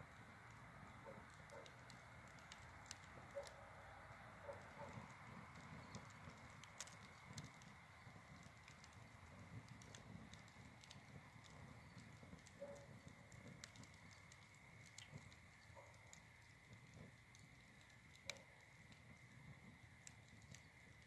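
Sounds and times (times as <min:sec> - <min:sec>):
fire pops: 0:00.0 - 0:21.0
wood fire crackling: 0:00.0 - 0:21.0.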